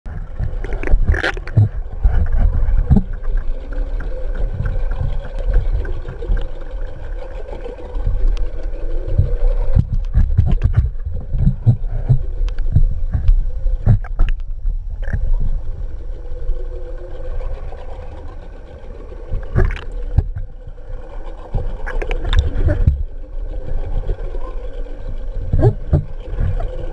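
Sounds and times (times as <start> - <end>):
boat engine hum: 0.0 - 26.9
underwater rumbling water: 0.0 - 26.9.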